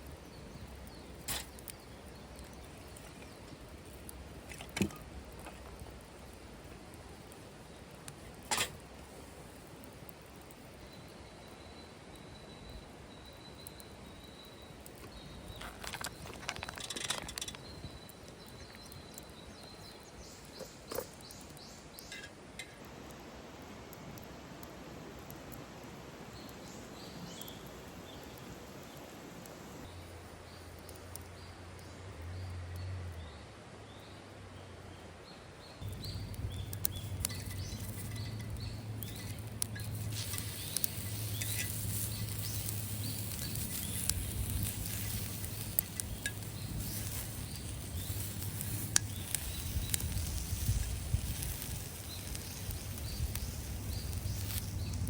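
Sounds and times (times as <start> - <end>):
sharp crackles and clicks: 0.0 - 23.2, 26.3 - 32.0, 35.8 - 55.0.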